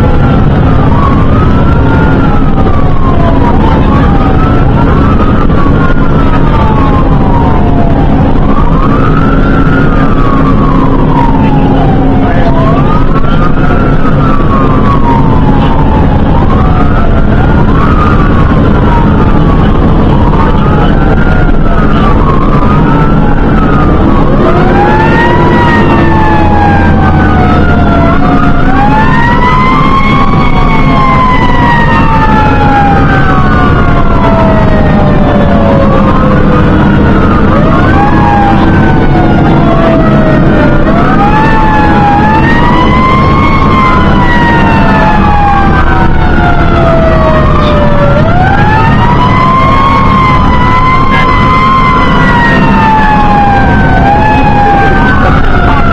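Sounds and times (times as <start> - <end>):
fire engine sirens wailing: 0.0 - 55.9
truck engine drone: 0.0 - 55.9.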